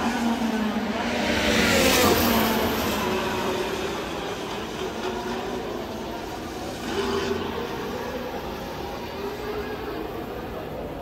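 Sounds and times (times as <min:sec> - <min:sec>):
racing car engine passing by: 0:00.0 - 0:10.8.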